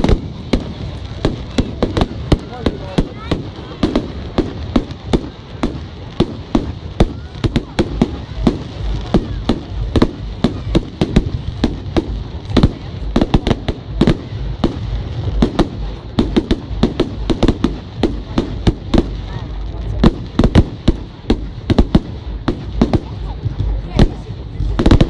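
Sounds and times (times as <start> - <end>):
continuous low rumble: 0.0 - 25.0
fireworks bursting: 0.0 - 25.0.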